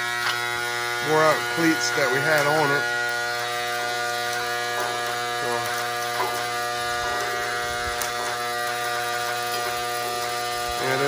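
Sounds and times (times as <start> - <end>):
small engine buzzing hum: 0.0 - 11.0.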